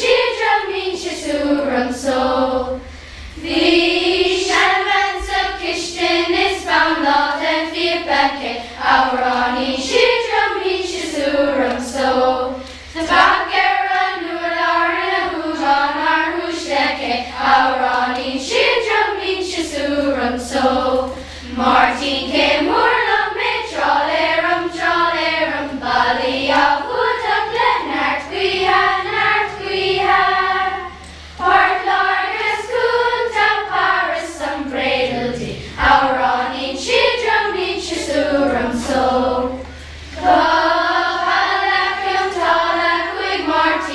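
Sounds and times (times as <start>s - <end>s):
children's choir singing: 0.0s - 43.9s.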